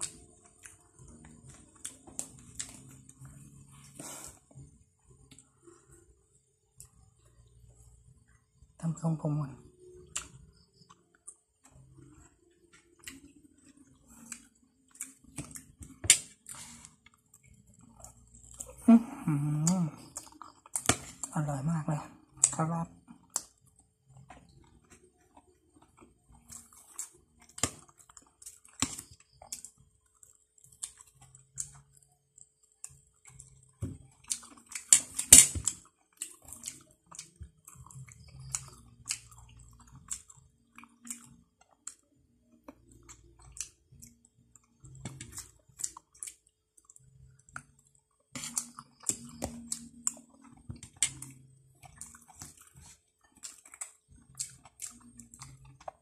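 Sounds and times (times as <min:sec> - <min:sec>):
person chewing food: 0:00.0 - 0:08.7, 0:09.7 - 0:56.0.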